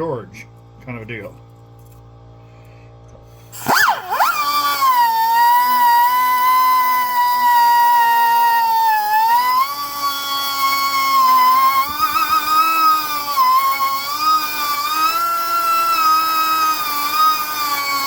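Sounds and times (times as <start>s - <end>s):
pneumatic rotary tool whine: 3.4s - 18.0s.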